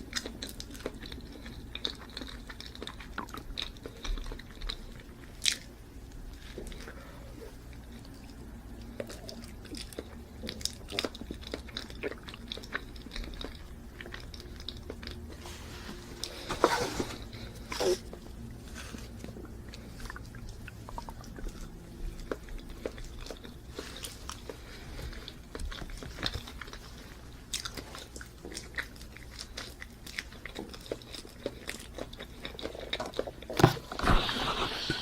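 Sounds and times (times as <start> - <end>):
person chewing: 0.0 - 35.0.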